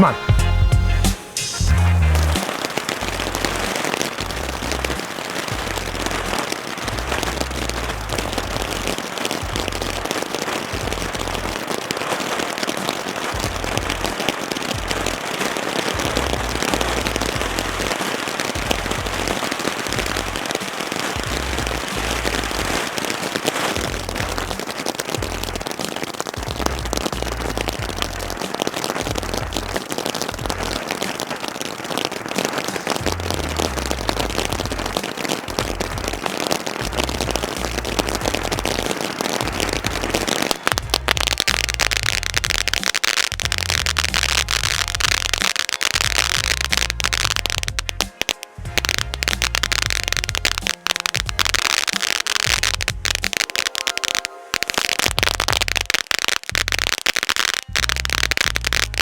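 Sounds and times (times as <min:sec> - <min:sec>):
firework sparks hissing and crackling: 0:00.0 - 0:59.0.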